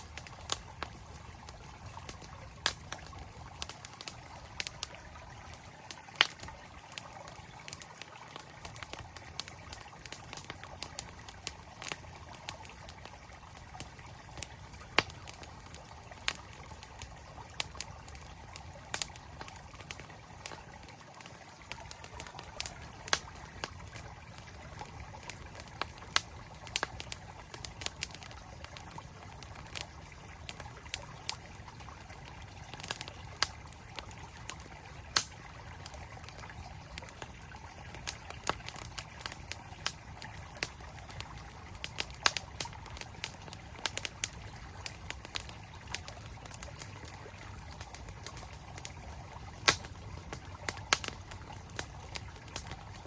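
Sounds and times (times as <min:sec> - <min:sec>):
campfire crackling and popping: 0:00.0 - 0:53.0
stream flowing: 0:00.0 - 0:53.0.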